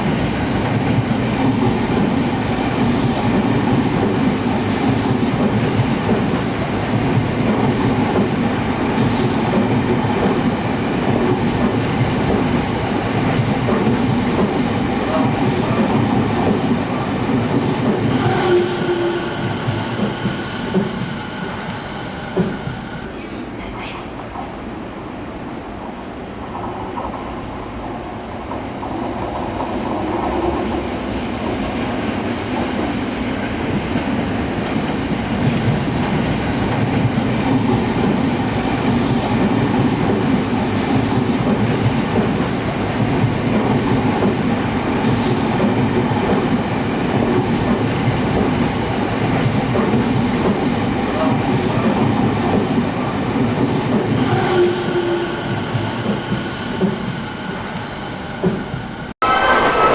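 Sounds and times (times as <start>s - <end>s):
clickety-clack of rail joints: 0.0s - 23.0s, 26.4s - 59.0s
electric train wheels rumbling on rail: 0.0s - 59.9s.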